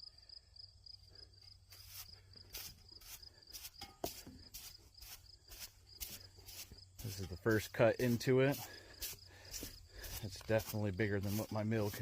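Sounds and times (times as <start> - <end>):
crickets chirping: 0.0 - 10.7.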